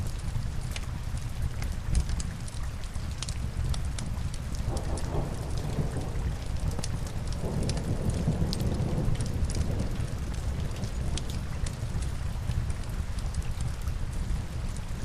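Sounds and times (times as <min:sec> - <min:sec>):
crackling log fire: 0:00.0 - 0:15.0
rain on window glass: 0:00.0 - 0:15.0.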